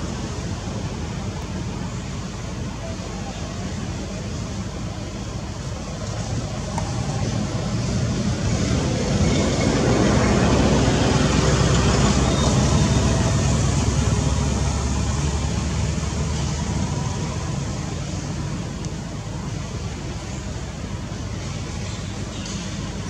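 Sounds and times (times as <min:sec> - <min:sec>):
passing vehicle rumble: 0:03.6 - 0:23.0.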